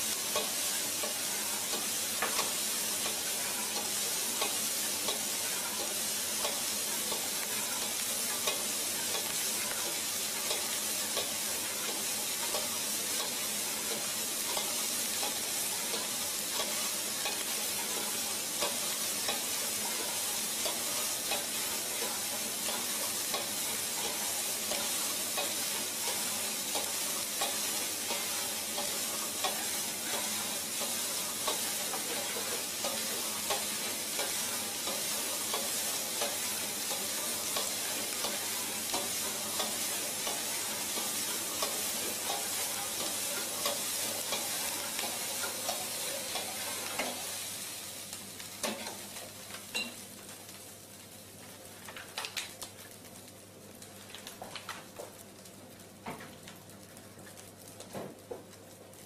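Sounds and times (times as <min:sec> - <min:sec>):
rice sizzling in a wok: 0:00.0 - 0:59.0
spatula scraping and clicking on pan: 0:00.4 - 0:47.3, 0:48.6 - 0:50.0.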